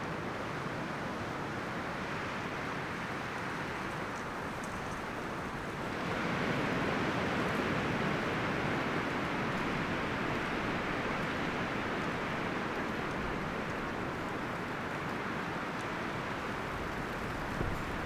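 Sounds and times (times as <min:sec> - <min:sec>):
wind rustling through leaves: 0:00.1 - 0:18.0.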